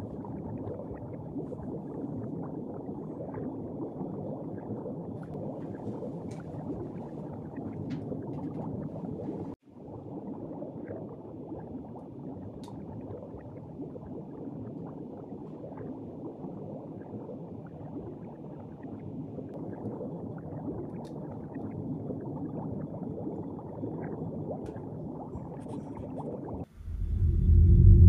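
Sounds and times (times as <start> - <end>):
underwater bubbling and gurgling: 0.0 - 28.0.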